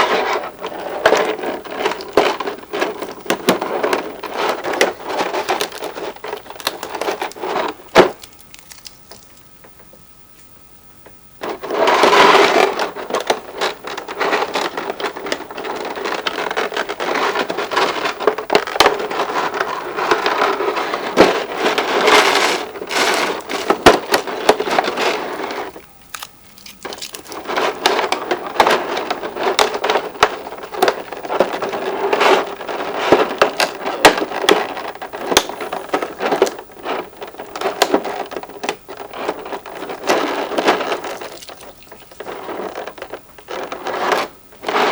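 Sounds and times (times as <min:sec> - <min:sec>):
packaging crinkling and rustling: 0:00.0 - 0:44.9.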